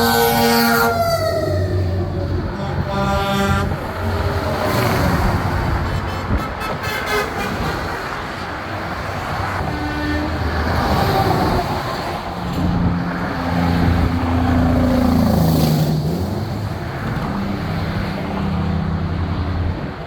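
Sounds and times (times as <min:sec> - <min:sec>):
heavy diesel trucks driving past: 0:00.0 - 0:20.0.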